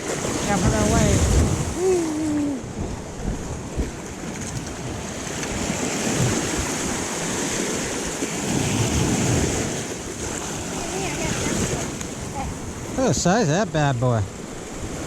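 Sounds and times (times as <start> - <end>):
ocean surf washing on shore: 0.0 - 15.0
wind buffeting microphone: 0.0 - 15.0.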